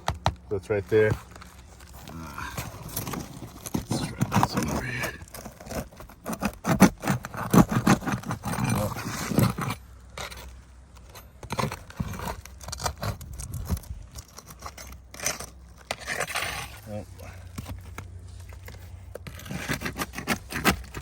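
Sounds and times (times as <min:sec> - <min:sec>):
pry tool scraping roof shingles: 0:00.0 - 0:21.0.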